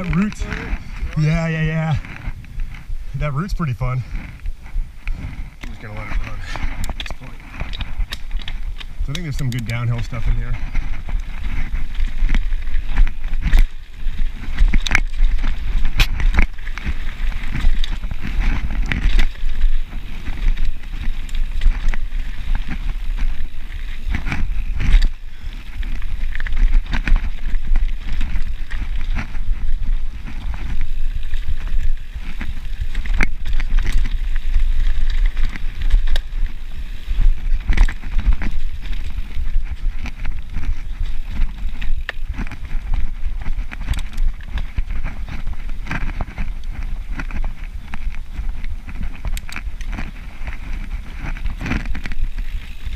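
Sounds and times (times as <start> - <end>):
bike rattling and clacking: 0.0 - 52.9
tyres rolling on dirt: 0.0 - 52.9
wind rumble on microphone: 0.0 - 52.9.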